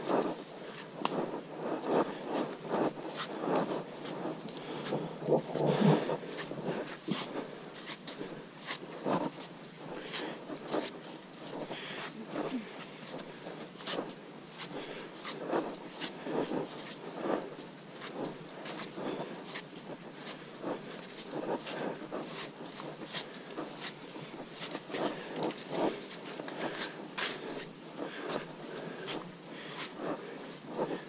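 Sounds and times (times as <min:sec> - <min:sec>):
footsteps on muddy dirt trail: 0:00.0 - 0:31.0.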